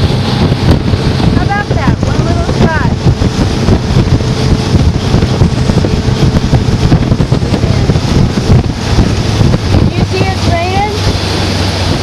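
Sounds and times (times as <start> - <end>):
motorboat engine at speed: 0.0 - 12.0
water rushing along hull: 0.0 - 12.0
wind buffeting microphone: 0.0 - 12.0.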